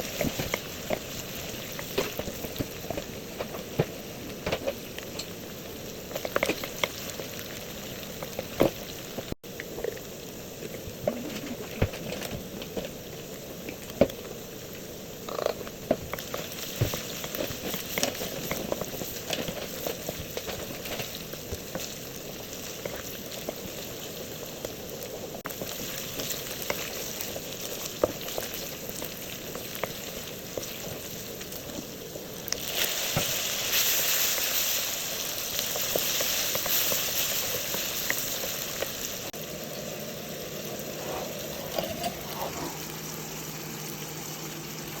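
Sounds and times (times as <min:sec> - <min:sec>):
oil popping and crackling: 0:00.0 - 0:39.5
chicken frying in hot oil: 0:00.0 - 0:45.0.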